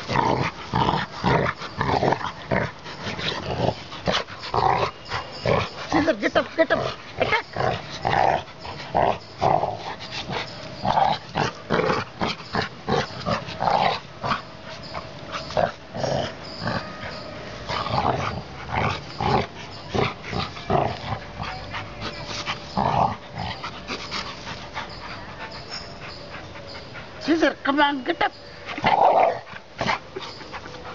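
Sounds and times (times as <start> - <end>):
dogs growling in play: 0.0 - 27.2, 28.7 - 30.9.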